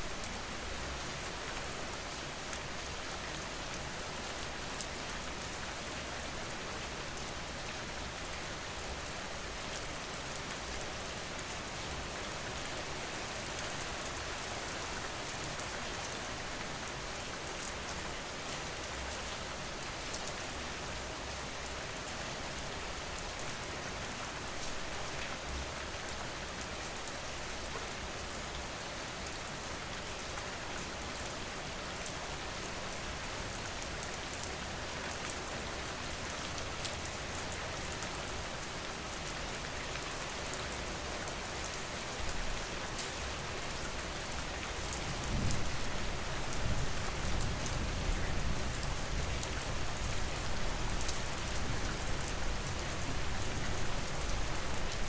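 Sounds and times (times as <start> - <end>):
dense rain pattering: 0.0 - 55.0.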